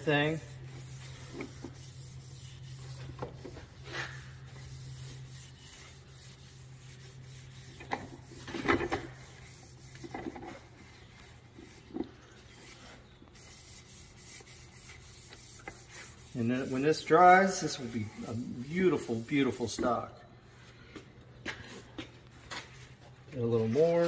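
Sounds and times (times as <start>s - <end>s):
rag rubbing wood: 0.0s - 20.0s.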